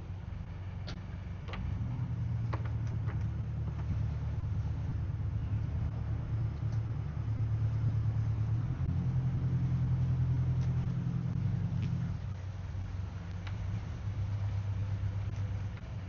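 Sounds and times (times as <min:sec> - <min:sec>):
yacht engines droning: 0:00.0 - 0:16.0.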